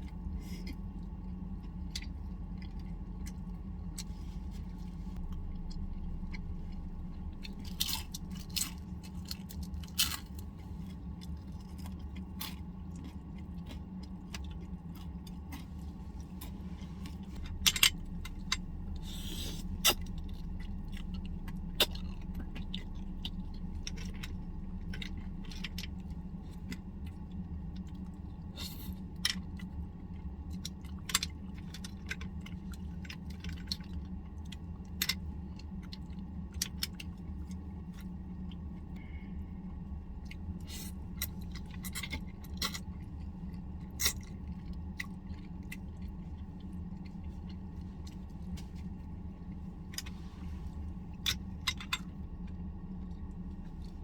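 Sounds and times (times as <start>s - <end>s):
soft chewing: 0.0s - 54.0s
steady low hum: 0.0s - 54.0s.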